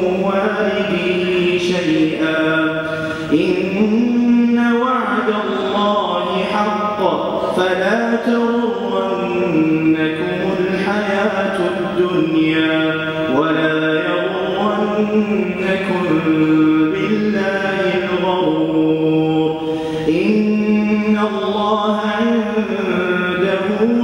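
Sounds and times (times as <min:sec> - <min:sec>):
man chanting melodically: 0:00.0 - 0:24.0.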